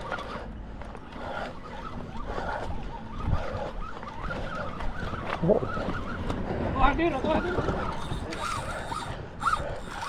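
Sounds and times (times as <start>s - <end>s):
open-air noise: 0.0s - 10.0s
road traffic rumble: 0.0s - 10.0s.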